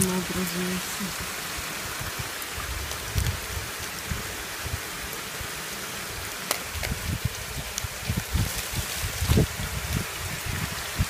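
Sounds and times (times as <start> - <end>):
waterfall rushing hiss: 0.0 - 11.0.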